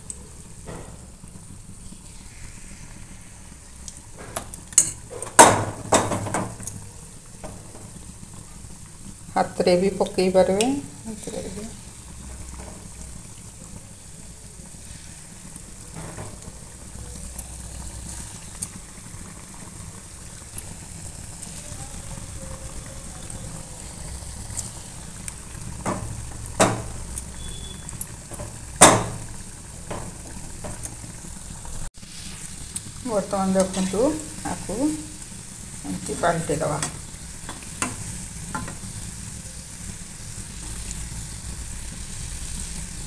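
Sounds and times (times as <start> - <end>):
batter deep-frying in oil: 0.0 - 43.0.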